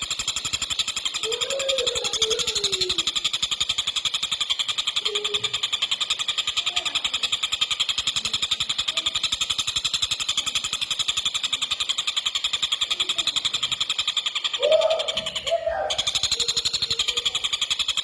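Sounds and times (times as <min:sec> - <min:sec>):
kingfisher rattling call: 0:00.0 - 0:18.0.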